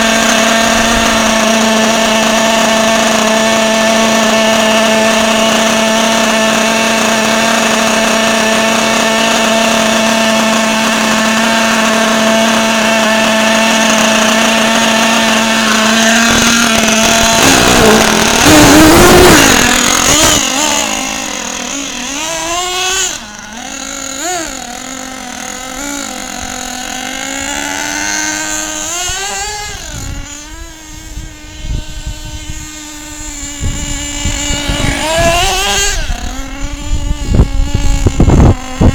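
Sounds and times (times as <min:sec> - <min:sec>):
toy truck motor whining: 0:00.0 - 0:38.9.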